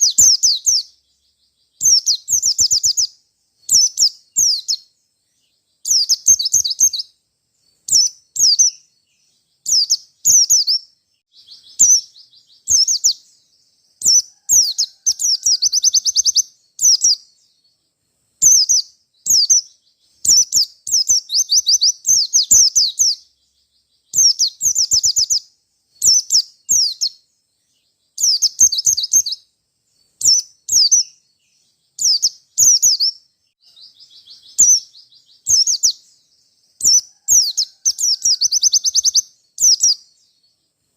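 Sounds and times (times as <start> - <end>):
bird chirps and trills: 0.0 - 40.9.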